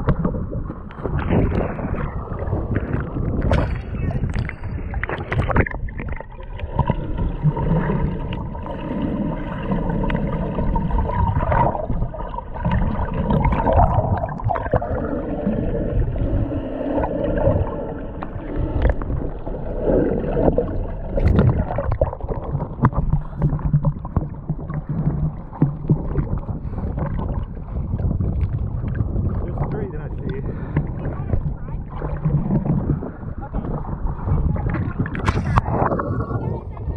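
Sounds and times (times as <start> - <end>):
water churning and gurgling: 0.0 - 36.9.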